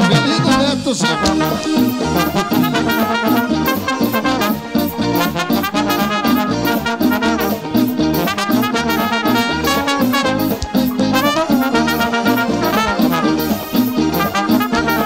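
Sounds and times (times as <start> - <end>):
fast drum and bass beat: 0.0 - 15.0
horn melody: 0.0 - 15.0.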